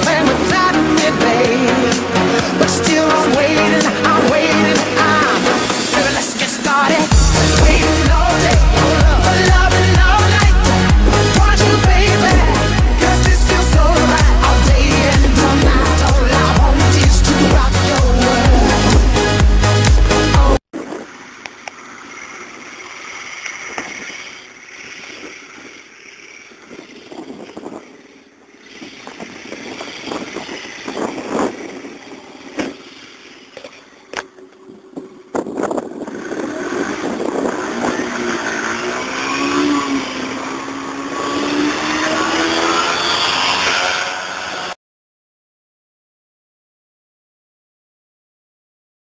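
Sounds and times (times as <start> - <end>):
motorcycle engine accelerating: 0.0 - 44.8.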